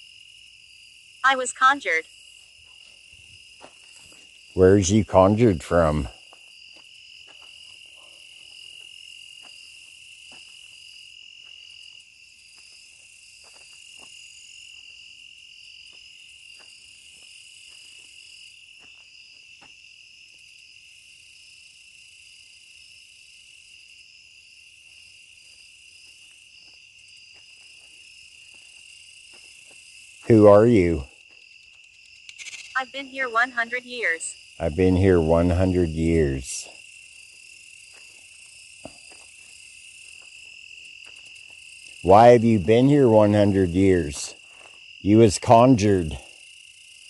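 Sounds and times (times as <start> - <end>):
crickets trilling: 0.0 - 47.0.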